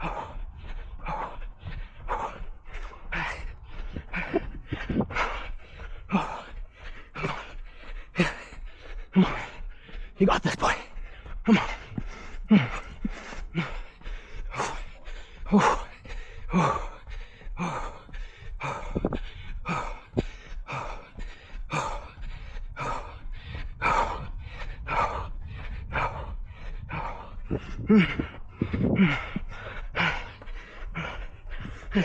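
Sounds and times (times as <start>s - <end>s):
person breathing heavily: 0.0s - 32.0s.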